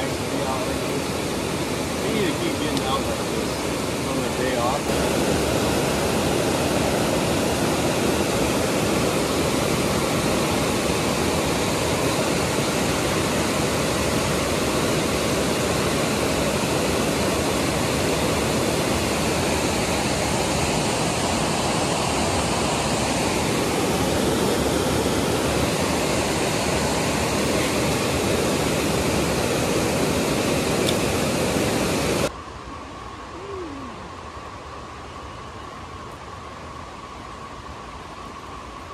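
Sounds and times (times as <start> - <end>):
waterfall rushing over rocks: 0.0 - 32.3.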